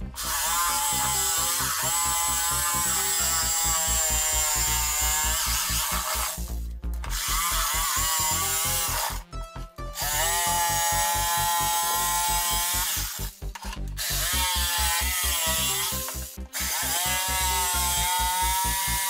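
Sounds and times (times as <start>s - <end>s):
jigsaw cutting wood: 0.0s - 9.3s, 10.0s - 19.0s.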